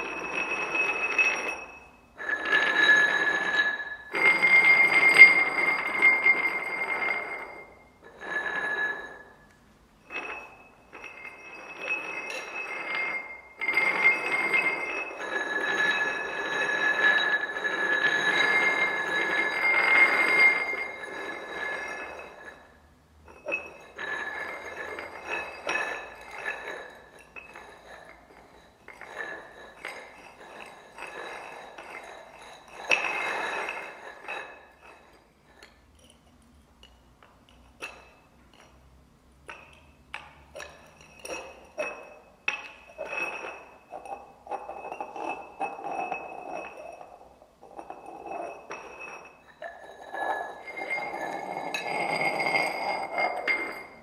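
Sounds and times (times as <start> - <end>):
glass rims scraping on table: 0.0 - 36.2, 39.5 - 54.0
glasses ringing high tones: 0.0 - 36.2, 36.8 - 38.8, 39.5 - 54.0.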